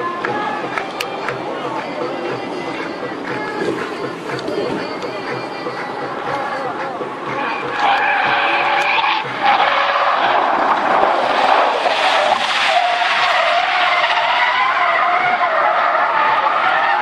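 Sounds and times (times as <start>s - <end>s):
car tyres squealing: 1.1s - 17.0s.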